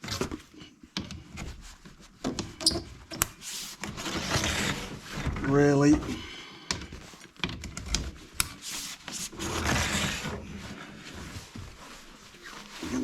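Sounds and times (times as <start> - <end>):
rubbing: 1.4 - 6.2, 6.9 - 13.0.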